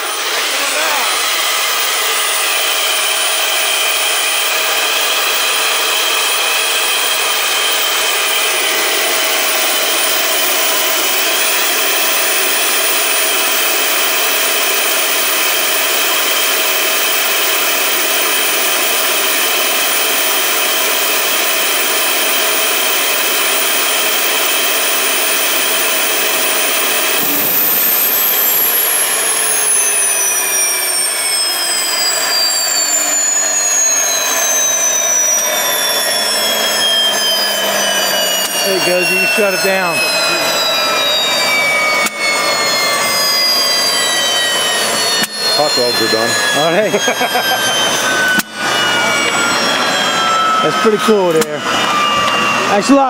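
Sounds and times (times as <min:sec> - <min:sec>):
gas turbine running with whine: 0:00.0 - 0:53.0.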